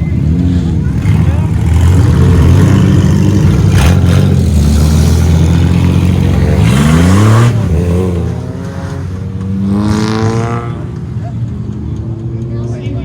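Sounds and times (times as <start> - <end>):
race car engines: 0.0 - 13.0
engine revving up: 0.1 - 11.1.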